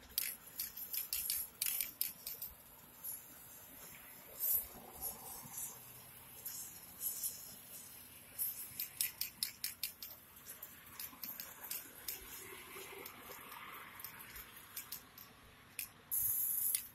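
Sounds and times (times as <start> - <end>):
spray paint can spurts: 0.0 - 3.6, 6.4 - 16.9.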